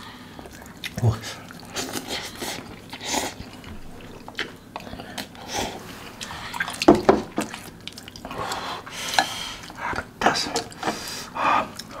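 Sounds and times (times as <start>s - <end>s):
man slurping and chewing noodles: 0.0s - 12.0s.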